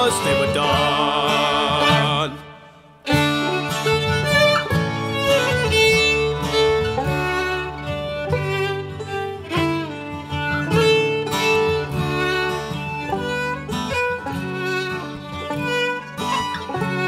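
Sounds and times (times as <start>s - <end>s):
acoustic guitar playing: 0.0s - 17.0s
melody of long held notes: 0.0s - 17.0s.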